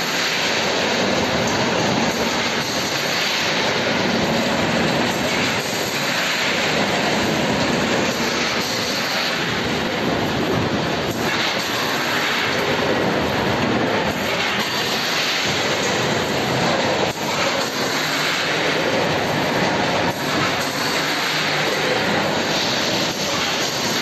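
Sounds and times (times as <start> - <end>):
packaging machine running: 0.0 - 24.0.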